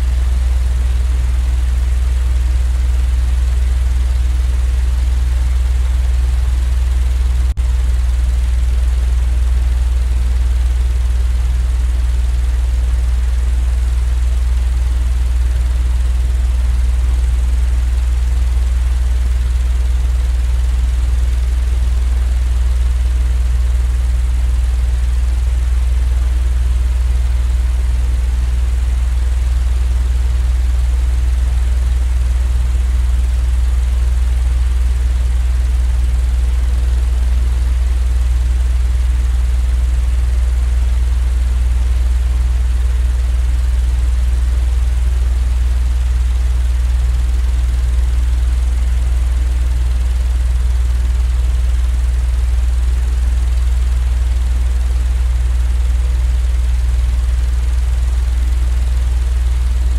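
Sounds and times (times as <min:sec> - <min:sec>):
steady low hum: 0:00.0 - 0:50.1, 0:55.5 - 0:59.9.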